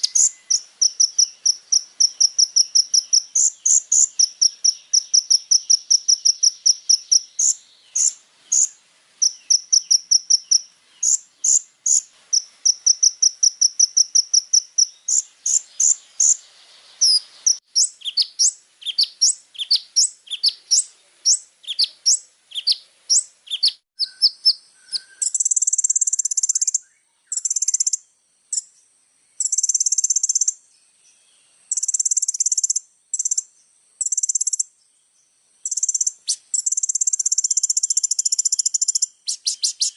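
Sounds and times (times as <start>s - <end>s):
bird song with high chirps: 0.0s - 39.9s.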